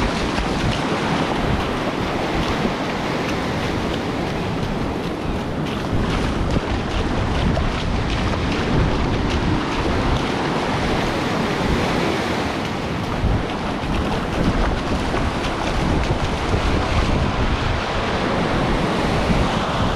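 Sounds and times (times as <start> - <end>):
surf breaking on shore: 0.0 - 19.9
wind noise on microphone: 0.0 - 19.9.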